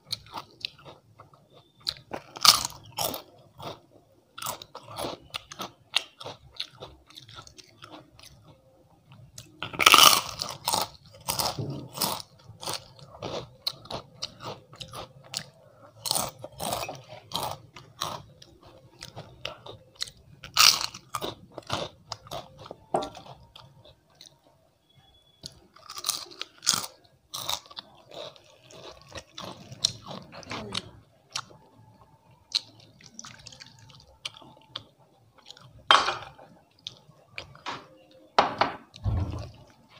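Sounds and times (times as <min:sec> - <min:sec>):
crunching of fried papad: 0:00.0 - 0:08.7, 0:09.4 - 0:37.6
soft chewing: 0:00.0 - 0:38.4.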